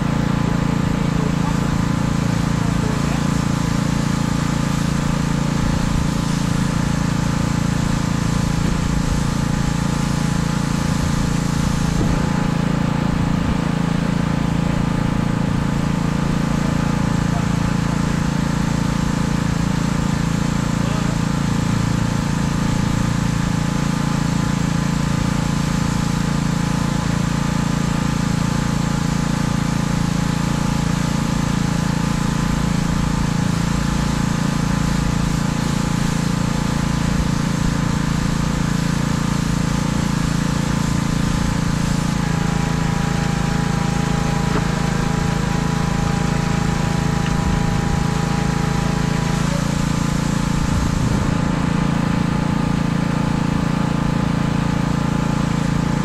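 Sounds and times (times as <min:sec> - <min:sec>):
pressure washer engine running: 0:00.0 - 0:56.0
high-pressure spray hissing: 0:01.3 - 0:14.2, 0:14.8 - 0:56.0.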